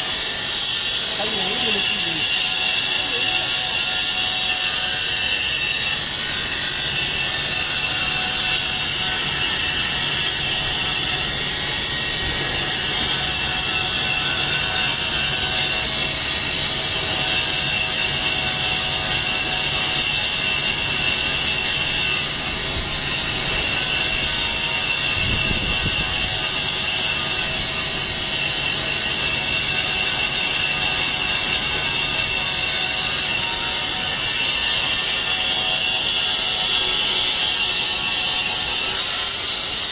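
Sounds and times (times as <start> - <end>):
band saw cutting foam: 0.0 - 39.9.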